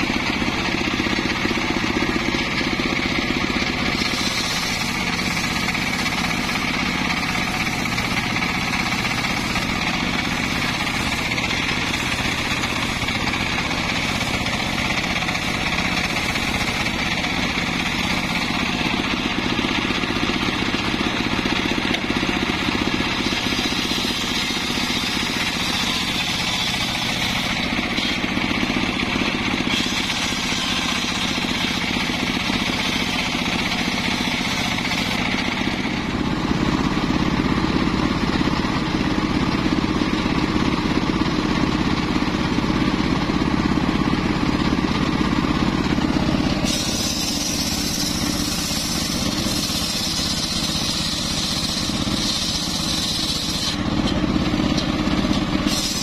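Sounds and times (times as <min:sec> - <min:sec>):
circular saw blade cutting wood: 0:00.0 - 0:37.0, 0:45.8 - 0:56.0
motor drone: 0:00.0 - 0:41.1, 0:44.1 - 0:56.0.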